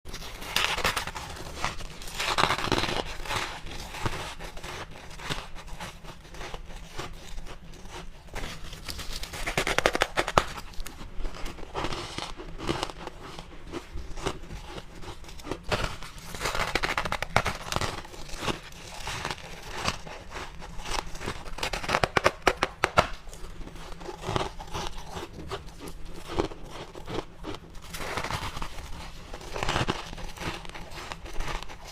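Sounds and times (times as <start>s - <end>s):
frost being chewed: 0.1s - 31.9s.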